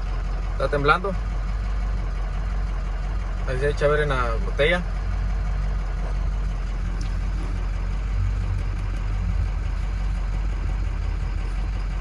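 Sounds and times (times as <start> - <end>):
diesel engine idling and misfiring: 0.0 - 12.0.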